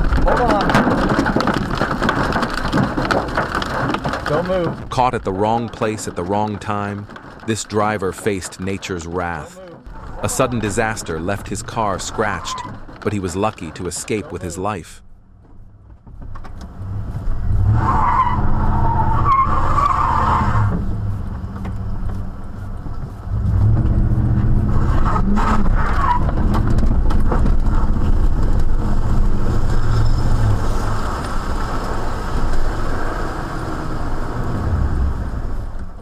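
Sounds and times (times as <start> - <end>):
low vehicle rumble: 0.0 - 36.0.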